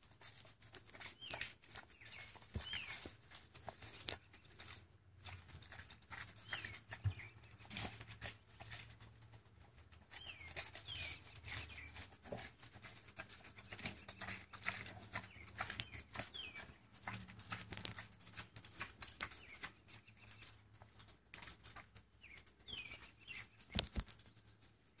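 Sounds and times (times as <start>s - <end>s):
pig chewing and smacking lips: 0.0s - 25.0s.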